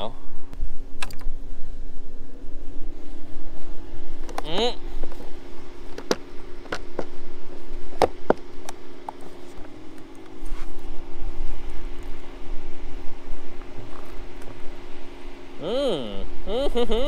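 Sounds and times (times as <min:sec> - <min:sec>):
low wind rumble: 0:00.0 - 0:17.0
steady low hum: 0:00.0 - 0:17.0.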